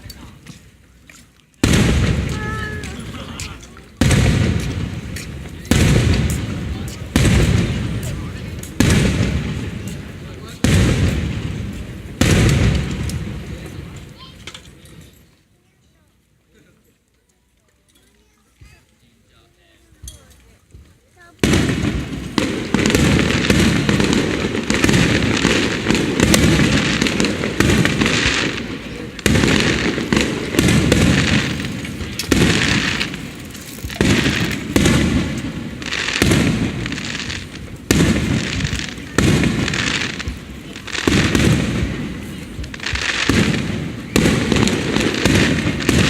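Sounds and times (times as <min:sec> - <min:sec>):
fireworks booming with crackling: 0:01.6 - 0:15.1, 0:19.8 - 0:46.0.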